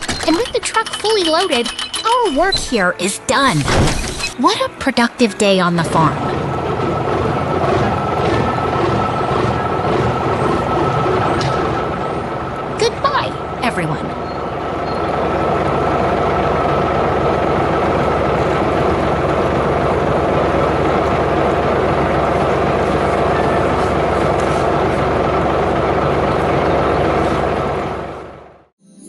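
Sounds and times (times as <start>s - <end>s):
heavy vehicle engine running: 0.0s - 28.7s.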